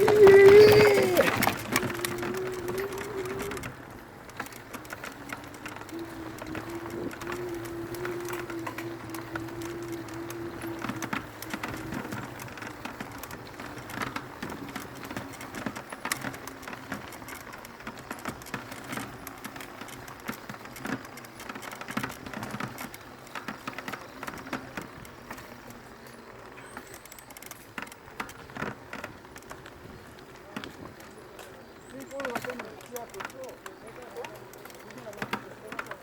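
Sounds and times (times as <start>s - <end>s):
mountain bike clattering over trail: 0.0s - 36.0s.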